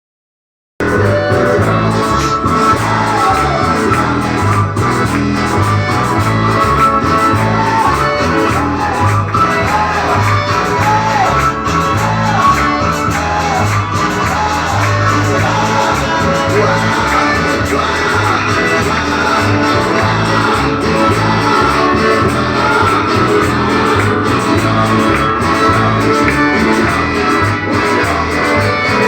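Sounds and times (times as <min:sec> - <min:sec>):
band with guitar and bass: 0:00.8 - 0:29.0
people singing: 0:00.8 - 0:29.0.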